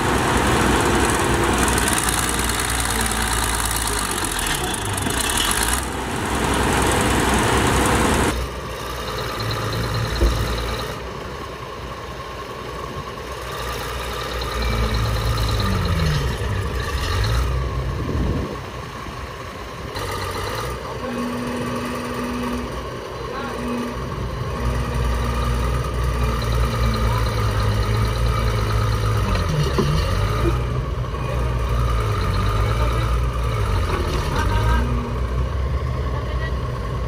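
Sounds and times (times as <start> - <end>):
heavy diesel engines running: 0.0 - 37.0.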